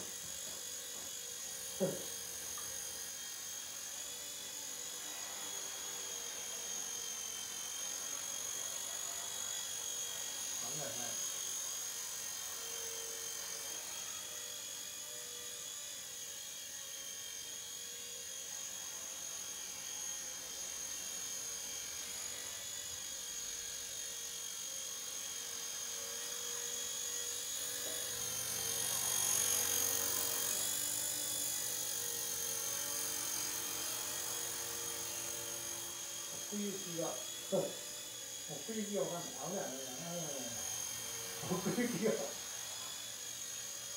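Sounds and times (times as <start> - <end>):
rc helicopter whine: 0.0 - 43.9.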